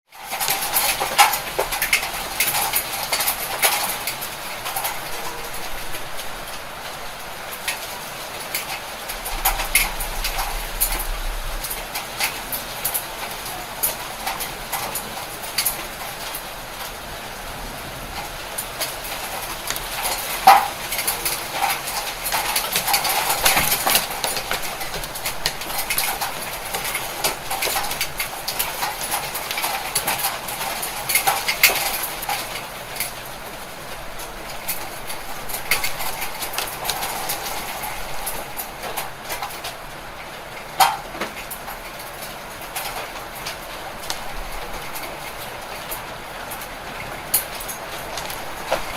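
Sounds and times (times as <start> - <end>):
hailstones hitting hard surfaces: 0.1 - 48.9
rain: 0.1 - 48.9.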